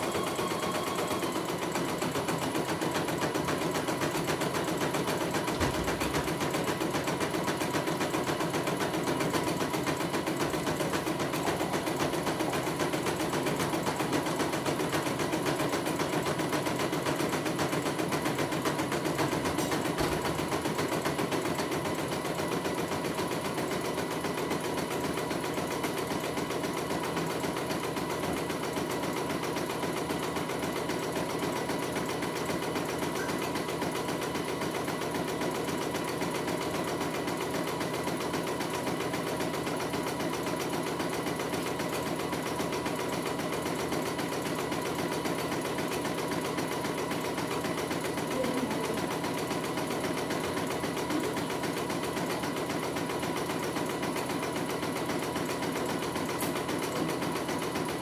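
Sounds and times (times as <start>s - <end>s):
embroidery machine stitching: 0.0s - 58.0s.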